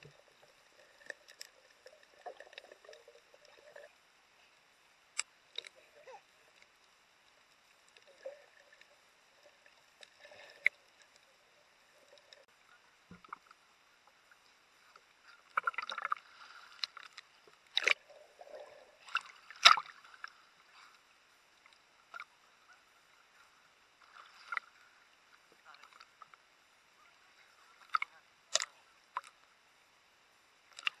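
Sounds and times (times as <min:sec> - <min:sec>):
water splashing and sloshing: 0:00.0 - 0:22.4, 0:23.9 - 0:26.5.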